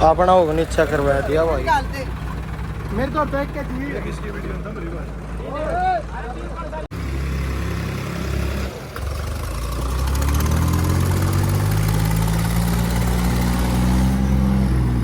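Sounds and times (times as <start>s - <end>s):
tractor engine revving: 0.0s - 15.0s.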